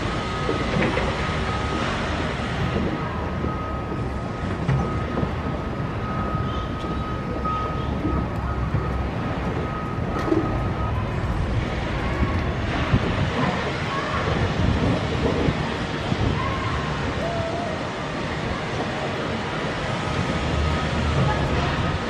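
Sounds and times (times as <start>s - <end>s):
excavator diesel engine and hydraulics: 0.0s - 22.0s.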